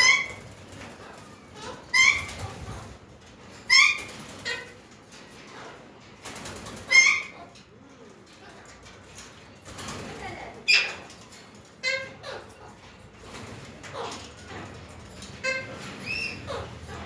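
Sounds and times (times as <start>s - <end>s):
parakeets squawking: 0.0s - 7.7s, 10.4s - 17.0s.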